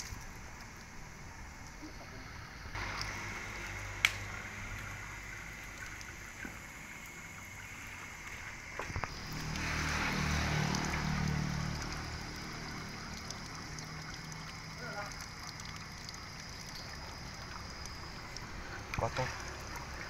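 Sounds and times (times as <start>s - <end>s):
water rushing through radiator: 0.0s - 20.0s.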